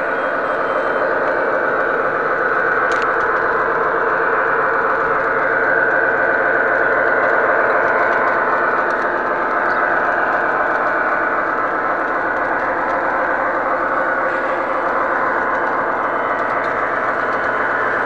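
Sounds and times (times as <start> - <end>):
model train rumbling on rails: 0.0 - 18.0.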